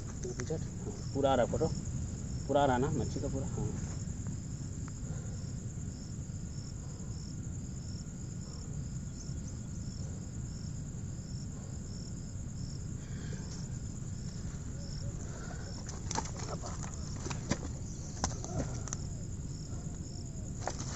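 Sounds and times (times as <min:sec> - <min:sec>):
insect chirping: 0:00.0 - 0:20.9
low outdoor rumble: 0:00.0 - 0:20.9.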